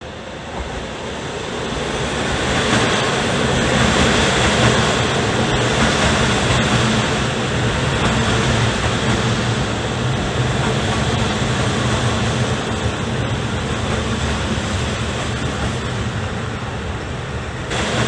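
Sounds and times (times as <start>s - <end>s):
train rolling noise: 0.0s - 18.0s.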